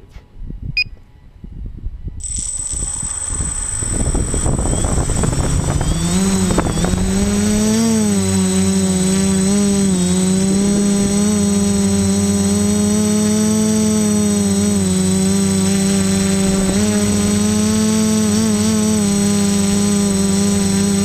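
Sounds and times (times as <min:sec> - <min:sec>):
drone motors humming: 0:02.2 - 0:21.0
high whine: 0:02.2 - 0:21.0.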